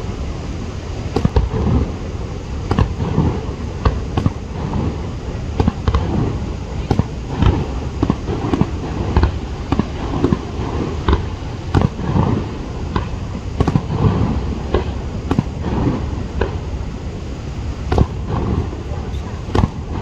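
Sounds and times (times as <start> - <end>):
continuous low rumble: 0.0 - 20.0
fireworks bangs: 0.0 - 20.0.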